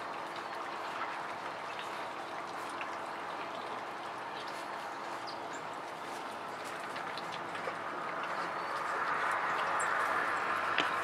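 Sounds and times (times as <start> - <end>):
puppies lapping and slurping food: 0.0 - 11.0.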